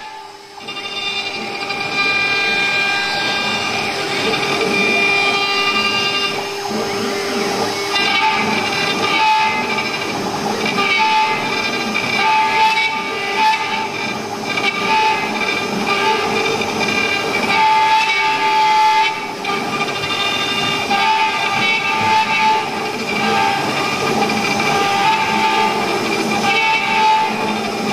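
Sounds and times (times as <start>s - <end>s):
higher machine tone: 0.0s - 27.9s
router spindle whining: 0.0s - 27.9s.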